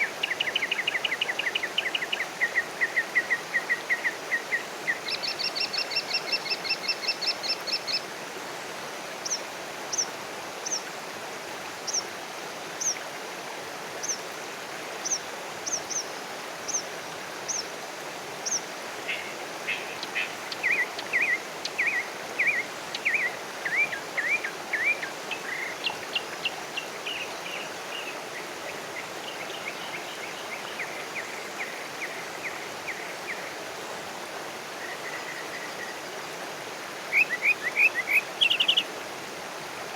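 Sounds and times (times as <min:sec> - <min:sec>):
outdoor ambience hiss: 0:00.0 - 0:39.9.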